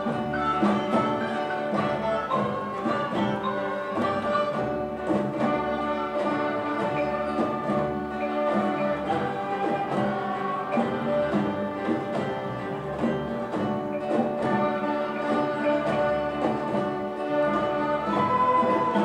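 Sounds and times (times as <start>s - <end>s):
bowed violins: 0.0s - 19.0s
guitars: 0.0s - 19.0s
marimba: 0.0s - 19.0s.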